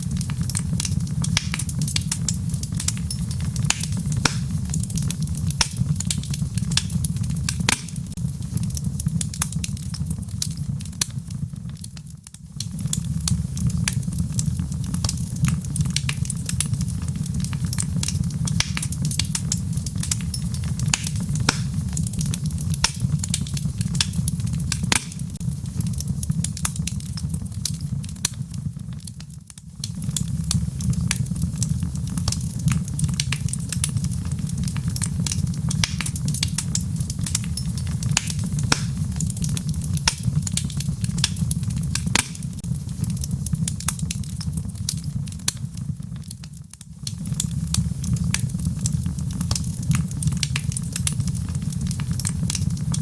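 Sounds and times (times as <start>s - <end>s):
fire rumbling: 0.0s - 53.0s
logs crackling and popping: 0.0s - 53.0s.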